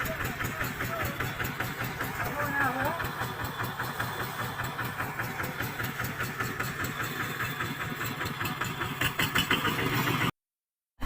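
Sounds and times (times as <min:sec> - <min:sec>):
tractor diesel engine running: 0:00.0 - 0:10.4.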